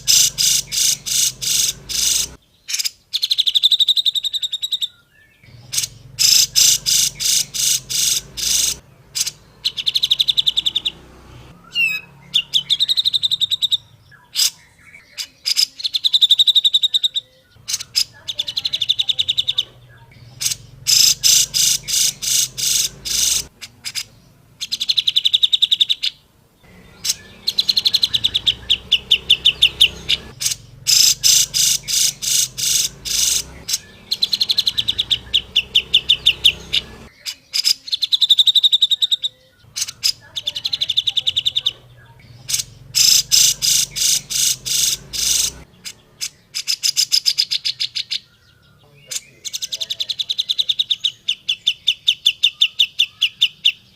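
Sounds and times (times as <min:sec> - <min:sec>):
bird singing rattling notes: 0:00.0 - 0:53.9.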